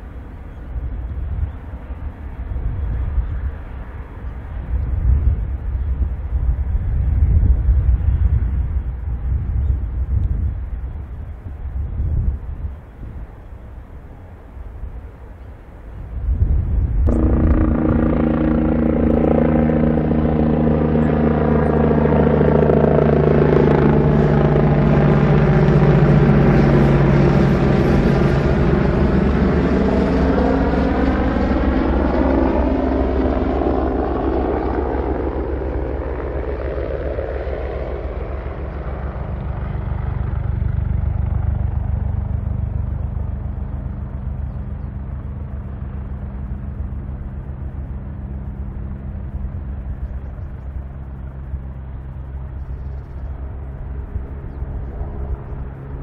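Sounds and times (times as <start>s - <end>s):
helicopter flying past: 0.0s - 56.0s.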